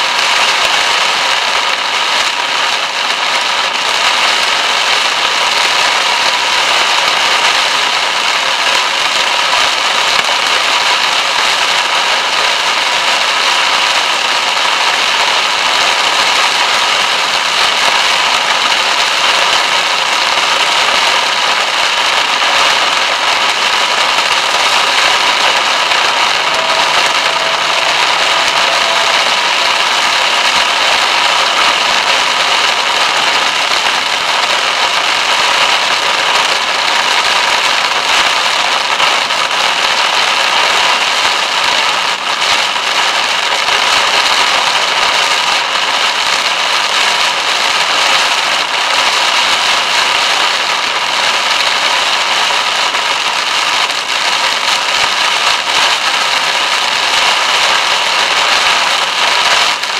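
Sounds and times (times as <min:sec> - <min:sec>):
heavy rain drumming on car roof: 0:00.0 - 0:59.9.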